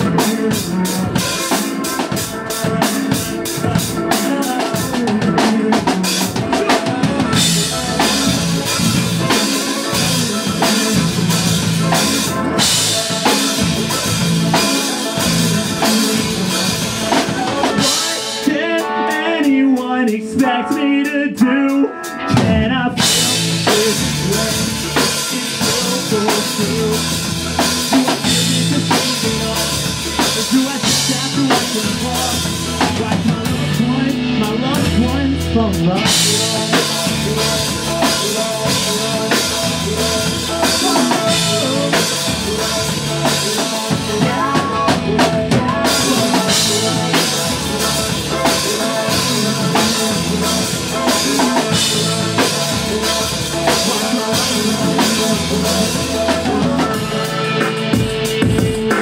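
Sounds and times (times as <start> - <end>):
melodic line: 0.0 - 58.9
drum kit: 0.0 - 59.0
rock band playing live: 0.0 - 59.0.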